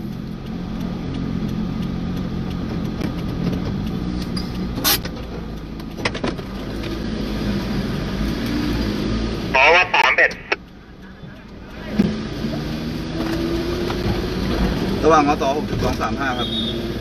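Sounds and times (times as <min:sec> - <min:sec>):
street noise: 0:00.0 - 0:17.0
vehicle engine humming: 0:00.0 - 0:17.0.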